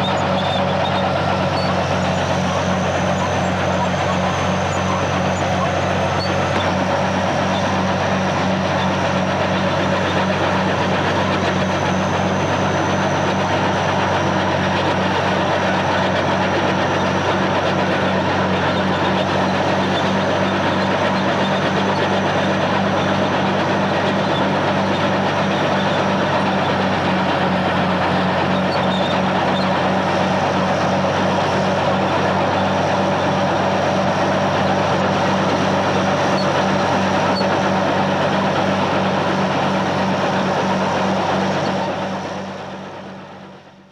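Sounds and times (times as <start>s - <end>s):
tank tracks squeaking and rattling: 0.0s - 41.9s
tank engine running: 0.0s - 43.9s.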